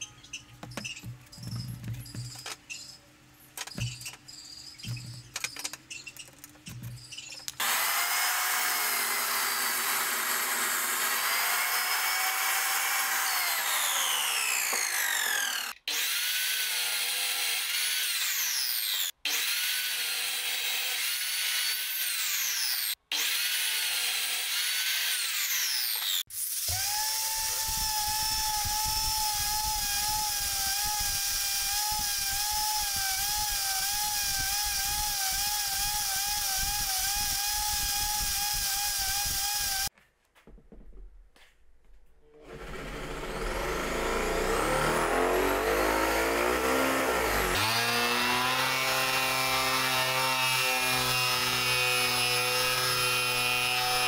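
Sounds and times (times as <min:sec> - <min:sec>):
angle grinder sanding wood: 0:07.6 - 0:39.9, 0:42.4 - 0:54.0
miter saw cutting wood: 0:07.6 - 0:39.9, 0:42.4 - 0:54.0.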